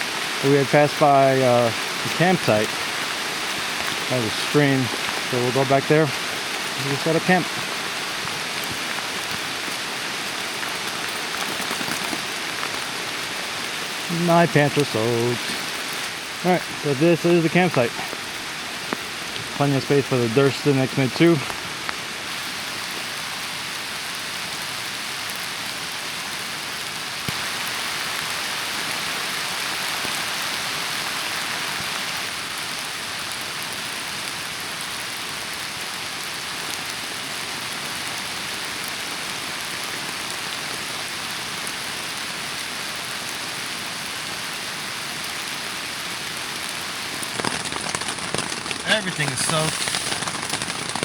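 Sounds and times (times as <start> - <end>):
rain falling: 0.0 - 51.0.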